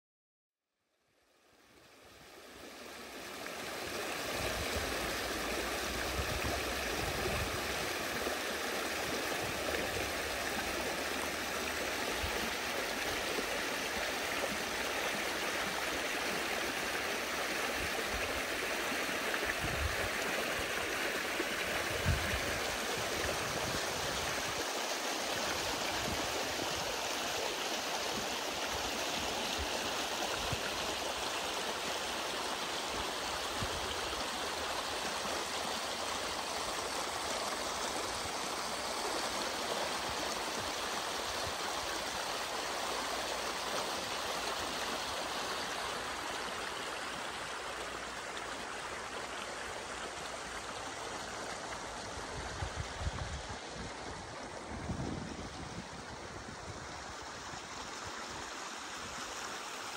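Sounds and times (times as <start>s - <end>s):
stream burbling over stones: 1.4s - 59.9s.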